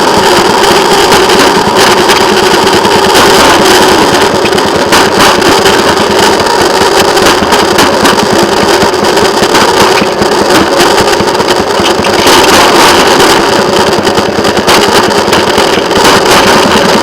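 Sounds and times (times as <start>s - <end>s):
engine running with fast pulsing: 0.0s - 17.0s.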